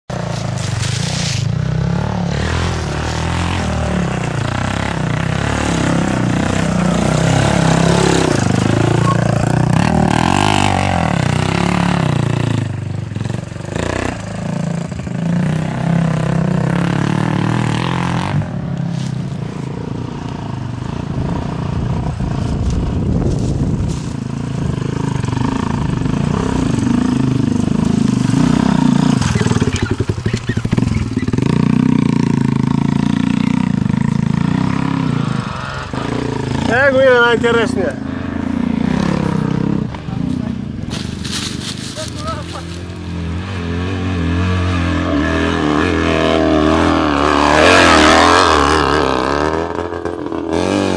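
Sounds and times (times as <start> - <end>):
dirt bike engine revving: 0.1 - 50.9.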